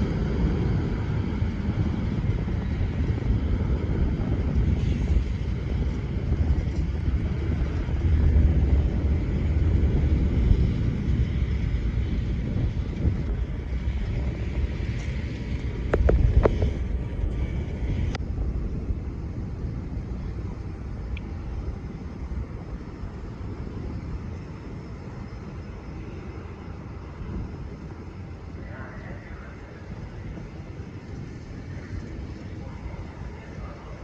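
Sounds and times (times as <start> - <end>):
aircraft engine rumble: 0.0 - 34.0.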